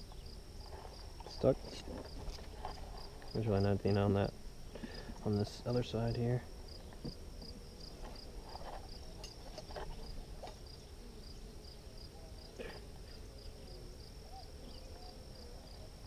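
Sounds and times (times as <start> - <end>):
honeybees buzzing: 0.0 - 16.0
insect chirping: 0.0 - 16.0.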